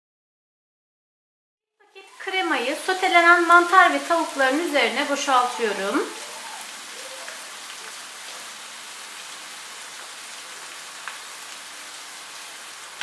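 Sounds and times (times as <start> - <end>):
chicken sizzling in a pot: 1.9 - 13.0.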